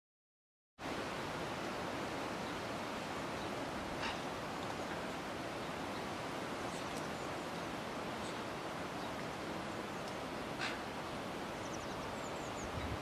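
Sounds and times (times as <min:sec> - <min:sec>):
wind hiss on microphone: 0:00.8 - 0:13.0.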